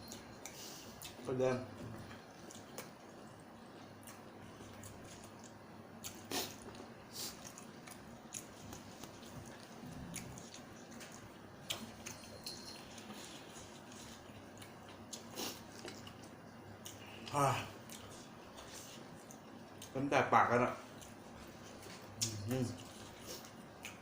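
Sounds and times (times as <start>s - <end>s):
person chewing food: 0.0s - 1.3s, 2.0s - 20.1s, 20.8s - 24.0s.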